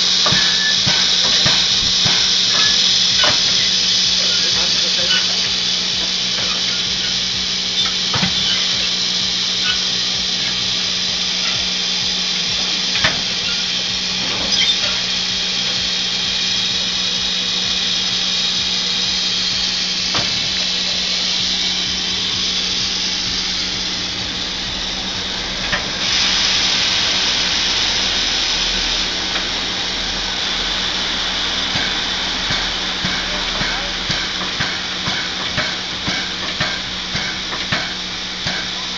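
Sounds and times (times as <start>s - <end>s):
steady low hum: 0.0s - 38.9s
steam locomotive hissing steam: 0.0s - 38.9s.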